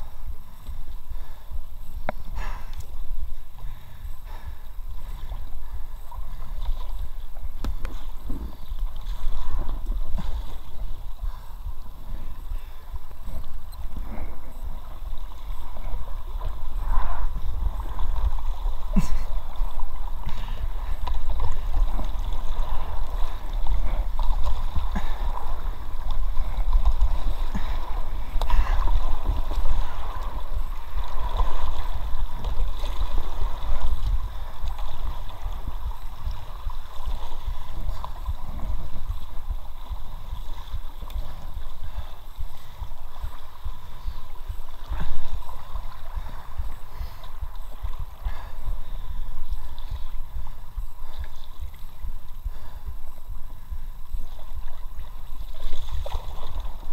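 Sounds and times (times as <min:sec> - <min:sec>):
brook water rippling and gurgling: 0:00.0 - 0:56.9
steady low rumble: 0:00.0 - 0:56.9.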